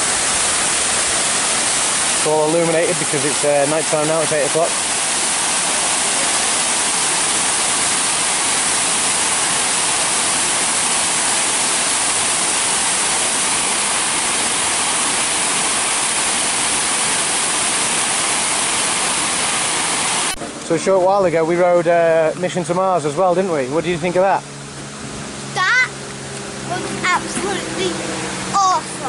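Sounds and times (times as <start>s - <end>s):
fountain water rushing: 0.0s - 29.0s.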